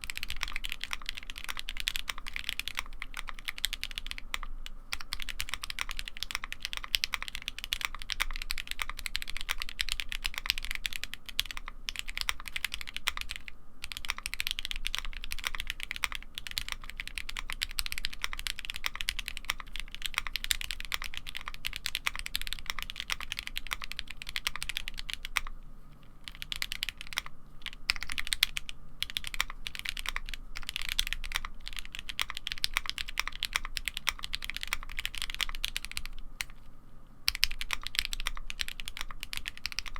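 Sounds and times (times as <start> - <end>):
fast mechanical keyboard typing: 0.0 - 25.5, 26.2 - 36.6, 37.3 - 39.9.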